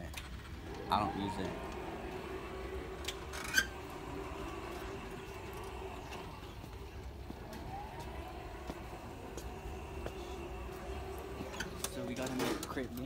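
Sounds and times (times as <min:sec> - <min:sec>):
shopping cart rolling: 0:00.0 - 0:13.0.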